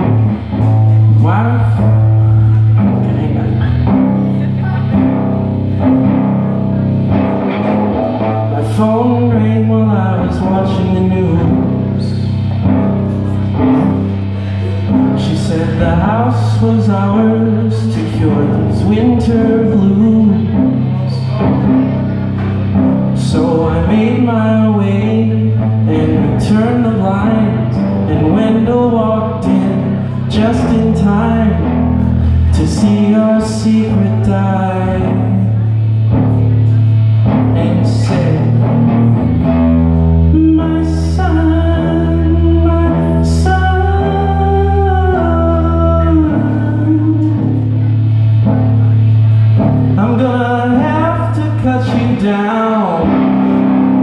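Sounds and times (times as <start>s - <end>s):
electric guitar: 0.0s - 54.0s
low bass: 0.0s - 54.0s.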